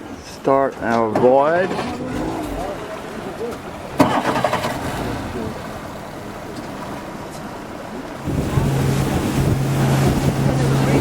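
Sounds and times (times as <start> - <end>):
motorboat engine humming: 0.0 - 11.0
water noise: 0.0 - 11.0
wind: 0.0 - 11.0.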